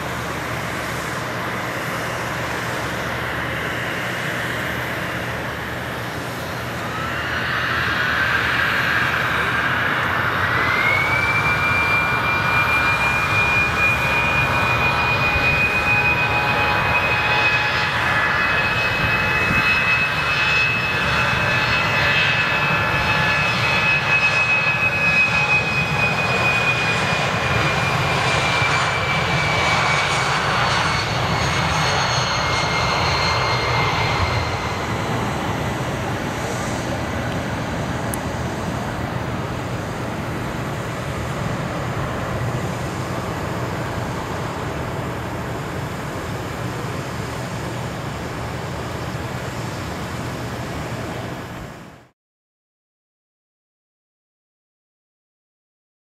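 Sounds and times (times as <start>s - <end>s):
jet engines whining at takeoff: 0.0s - 52.2s.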